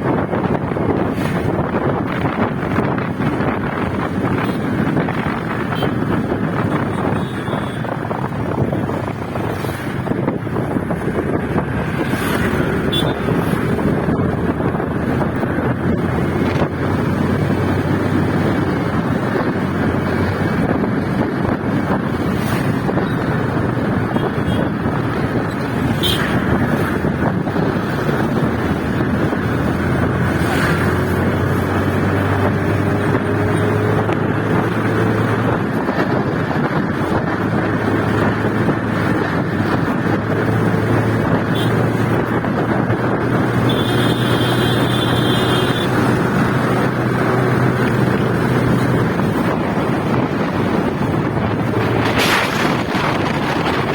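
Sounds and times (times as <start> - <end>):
motorcycle engine humming: 0.0 - 53.9
wind rushing on microphone: 0.0 - 53.9.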